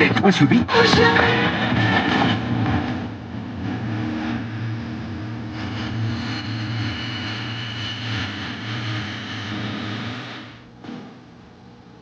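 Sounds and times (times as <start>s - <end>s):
low droning radio tone: 0.0s - 10.7s
radio static hiss: 0.0s - 10.7s.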